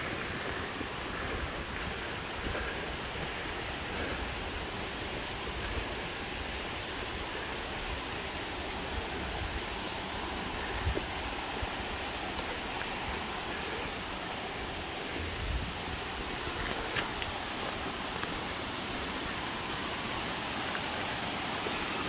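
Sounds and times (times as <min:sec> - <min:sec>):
creek flowing over rocks: 0:00.0 - 0:22.0.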